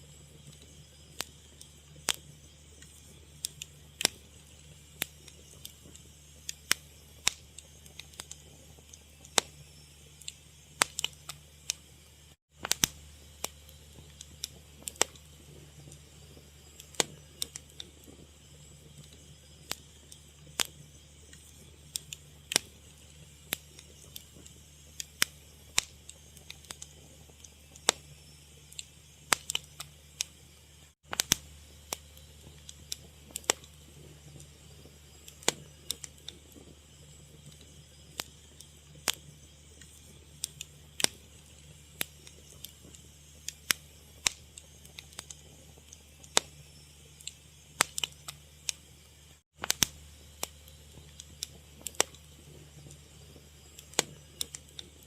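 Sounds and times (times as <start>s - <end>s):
fire crackling: 0.0s - 55.0s
low steady hum: 0.0s - 55.0s.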